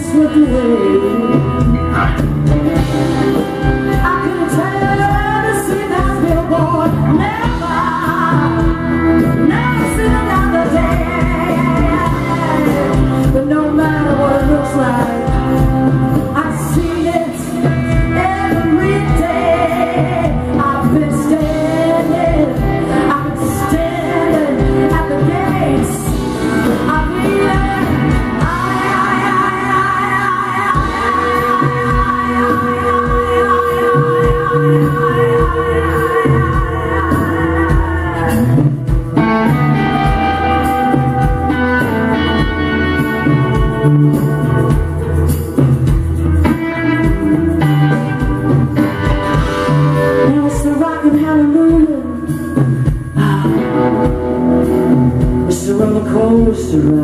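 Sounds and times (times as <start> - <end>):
woman singing: 0.0 - 1.8, 2.7 - 45.7, 46.4 - 57.0
live band playing: 0.0 - 57.0.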